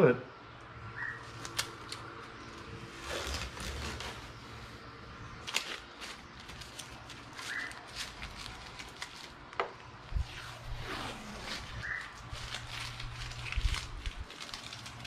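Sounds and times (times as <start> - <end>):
masking tape peeling rasp: 1.2 - 15.0.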